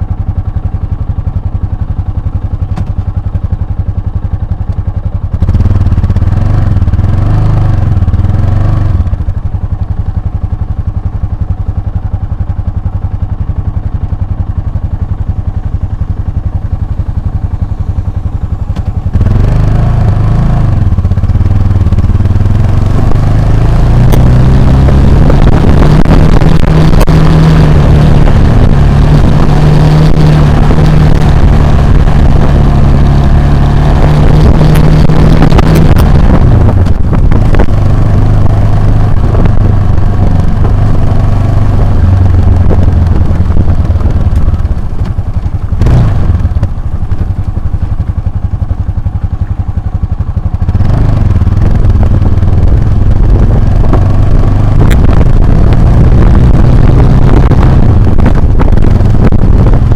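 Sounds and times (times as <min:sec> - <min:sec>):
motorcycle engine revving: 0:00.0 - 0:59.9
road noise: 0:00.0 - 0:59.9
rushing wind: 0:04.0 - 0:59.9.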